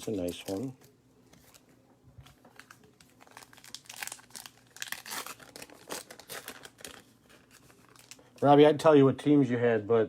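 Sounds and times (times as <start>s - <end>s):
card pack wrapper crinkling and tearing: 0.0s - 8.6s.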